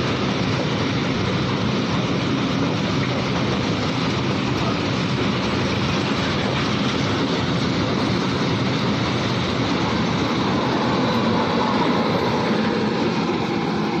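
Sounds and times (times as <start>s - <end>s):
train running on track: 0.0s - 14.0s.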